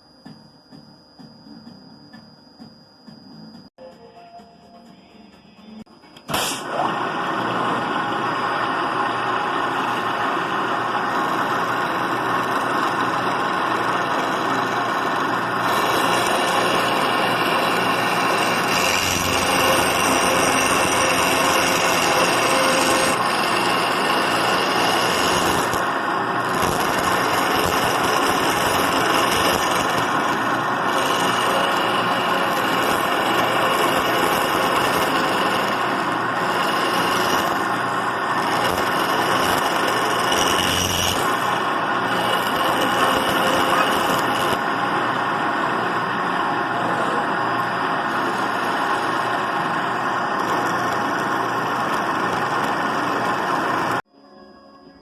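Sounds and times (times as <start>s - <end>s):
motor running: 6.3s - 54.1s.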